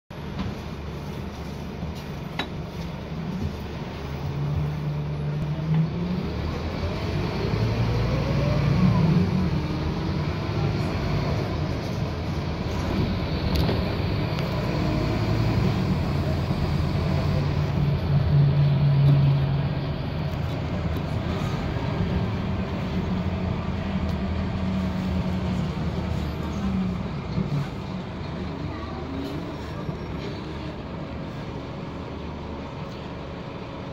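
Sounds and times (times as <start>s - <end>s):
bus diesel engine accelerating: 0.1s - 33.9s.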